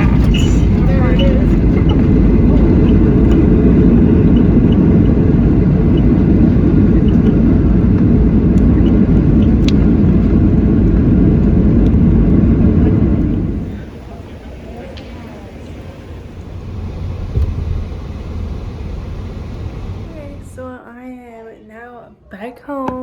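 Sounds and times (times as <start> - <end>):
airplane cabin low rumble: 0.0 - 21.1.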